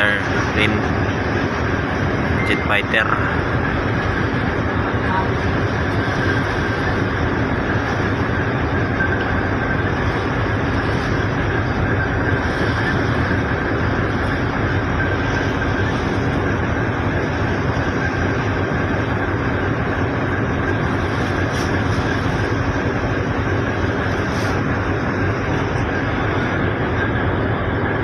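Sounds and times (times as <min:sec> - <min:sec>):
boat engine droning: 0:00.0 - 0:28.0
thin steady whine: 0:00.0 - 0:28.0.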